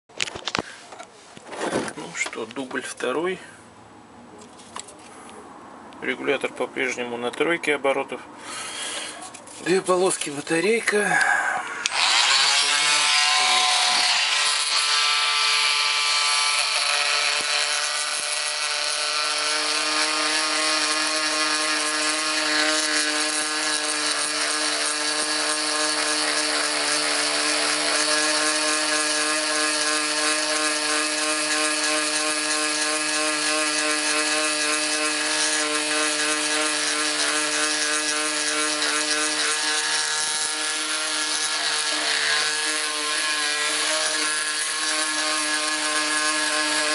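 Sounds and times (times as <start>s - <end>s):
multi-tool sawing: 8.4s - 46.9s.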